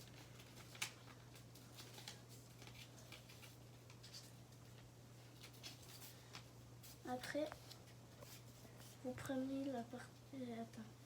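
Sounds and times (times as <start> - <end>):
paper being folded and creased: 0.0 - 9.0.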